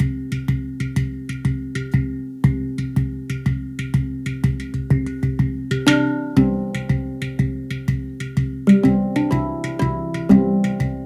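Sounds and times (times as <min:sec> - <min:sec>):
knocking percussion beat: 0:00.0 - 0:11.0.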